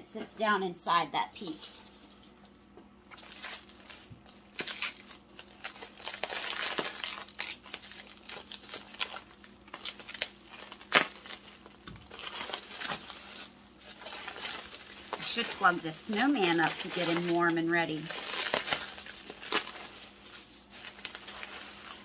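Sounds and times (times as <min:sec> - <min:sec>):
wrapping crinkling and rustling: 0:01.3 - 0:22.0.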